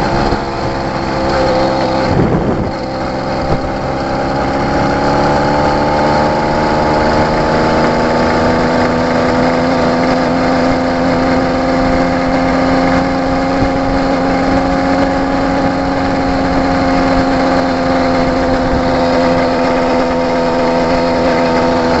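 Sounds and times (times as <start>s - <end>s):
two-stroke bicycle engine running: 0.0s - 22.0s.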